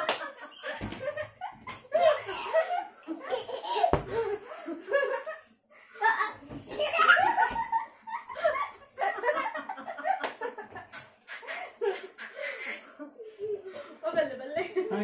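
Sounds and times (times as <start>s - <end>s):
people laughing and giggling: 0.0s - 15.0s.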